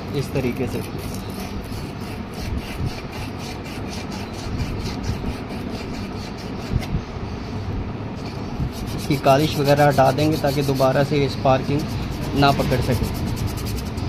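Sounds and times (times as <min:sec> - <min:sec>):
sandpaper rubbing on metal: 0:00.7 - 0:06.9, 0:08.6 - 0:14.0.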